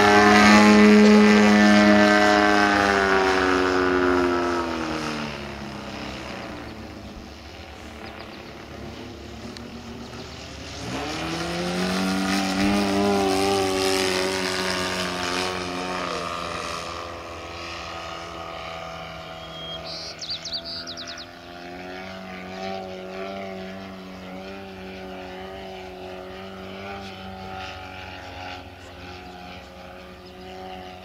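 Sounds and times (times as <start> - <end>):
model plane engine revving: 0.0 - 31.0.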